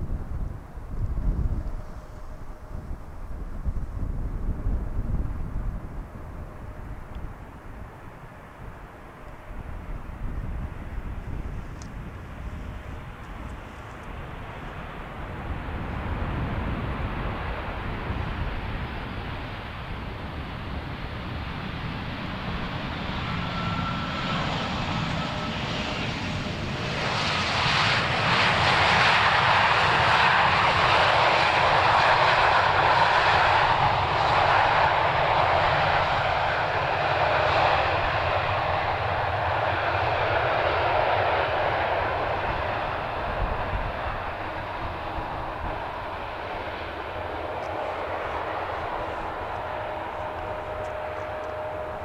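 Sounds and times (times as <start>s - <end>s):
jet engines flying by: 0.0s - 52.0s.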